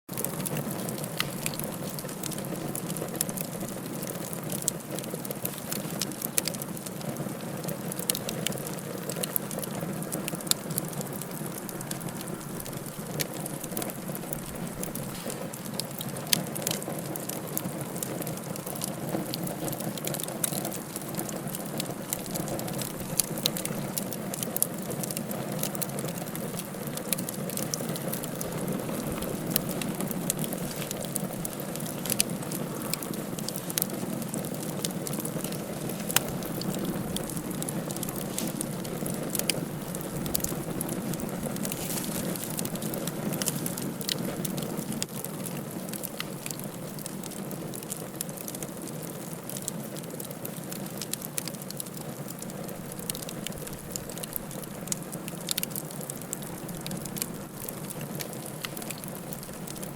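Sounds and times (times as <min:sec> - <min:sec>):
fire crackling and popping: 0:00.1 - 0:59.9
wood fire flames rushing: 0:00.1 - 0:59.9.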